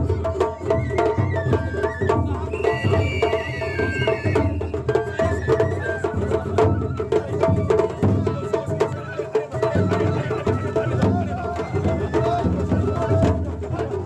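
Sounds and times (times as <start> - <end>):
taiko drums beating: 0.0 - 14.0.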